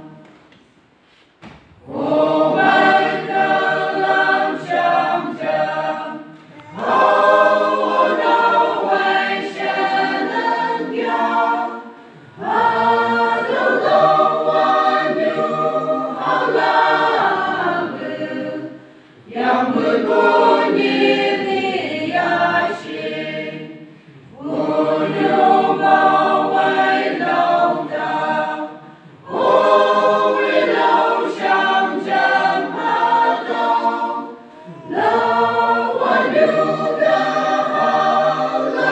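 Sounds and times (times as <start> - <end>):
choir singing a hymn: 0.0 - 0.6, 1.4 - 38.9.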